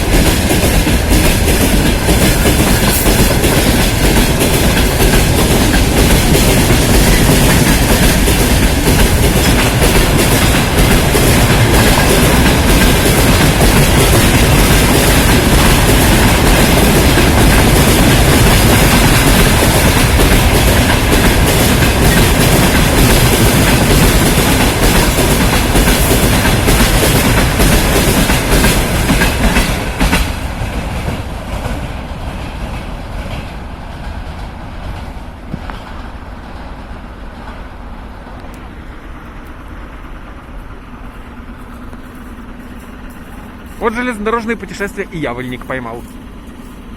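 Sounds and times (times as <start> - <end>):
train wheels clattering over rail joints: 0.0 - 37.7.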